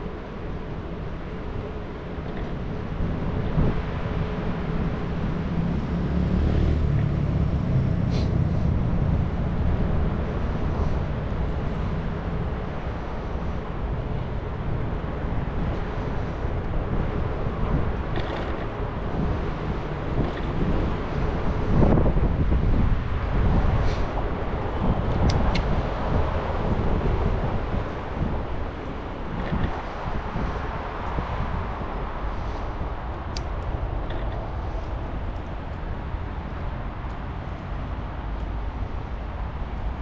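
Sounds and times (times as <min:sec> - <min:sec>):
bicycle rolling noise: 0:00.0 - 0:40.0.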